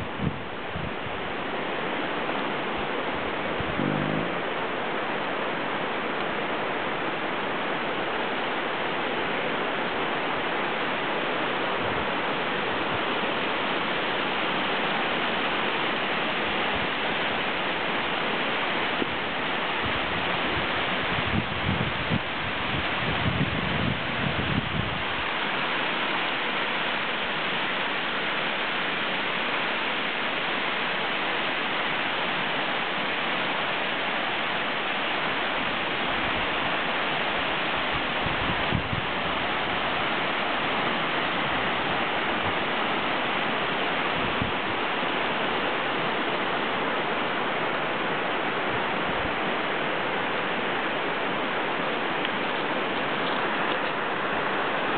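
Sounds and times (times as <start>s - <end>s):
river rushing over gravel: 0.0s - 54.9s.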